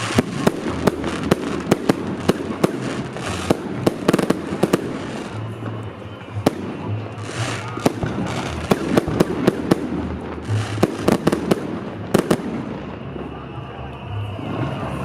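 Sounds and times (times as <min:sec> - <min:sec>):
fireworks sharp bangs: 0:00.0 - 0:05.8, 0:06.4 - 0:13.6.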